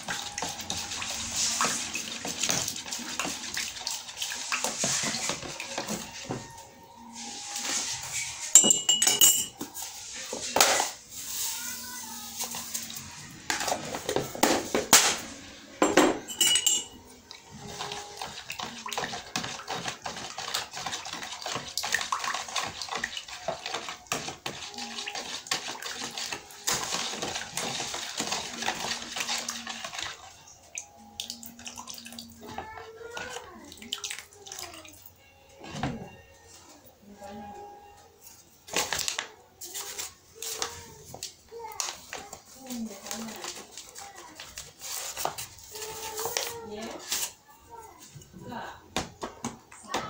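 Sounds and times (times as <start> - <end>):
spoon stirring cake mixture: 0.0 - 14.5, 16.2 - 48.8.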